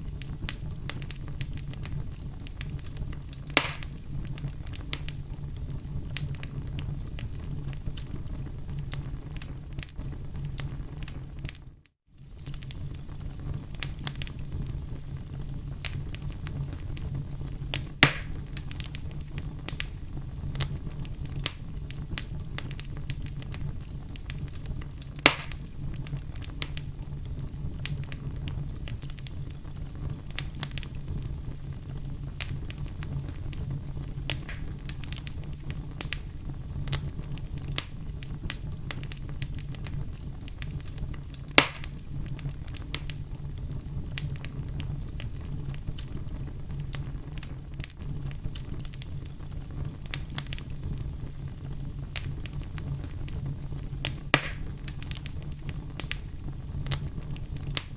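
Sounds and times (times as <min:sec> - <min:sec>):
sharp fire pops: 0:00.0 - 0:11.6, 0:12.2 - 0:57.9
wood fire crackling: 0:00.0 - 0:57.9.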